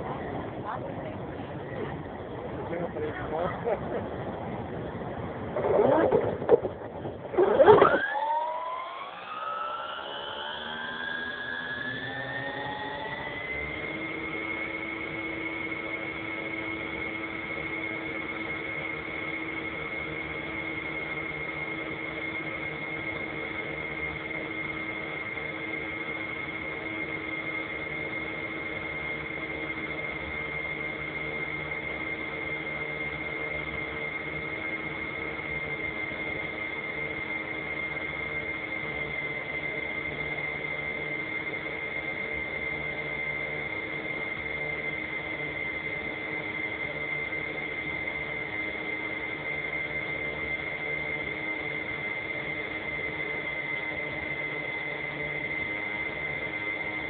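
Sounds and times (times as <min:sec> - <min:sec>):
model aircraft motor whine: 0:00.0 - 0:57.0
loud motor bursts: 0:07.3 - 0:57.0.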